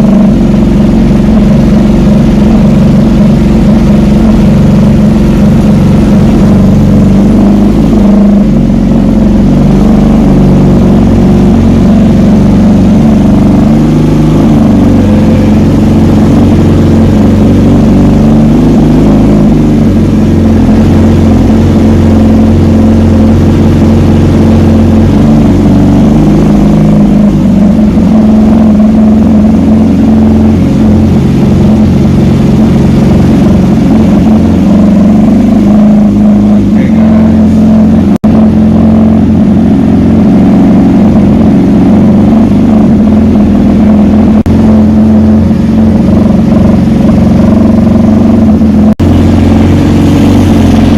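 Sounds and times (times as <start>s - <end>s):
motorcycle engine running loudly: 0.0s - 50.9s.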